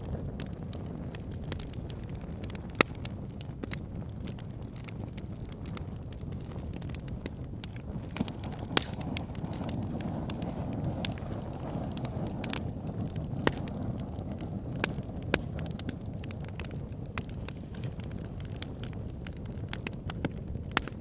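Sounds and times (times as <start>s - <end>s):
fire crackling and popping: 0.0s - 21.0s
low rumble of flames: 0.0s - 21.0s.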